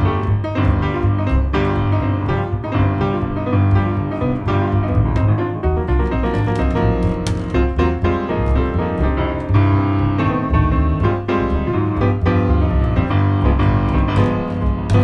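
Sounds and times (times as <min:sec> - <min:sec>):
double bass low notes: 0:00.0 - 0:15.0
jazz piano solo: 0:00.0 - 0:15.0.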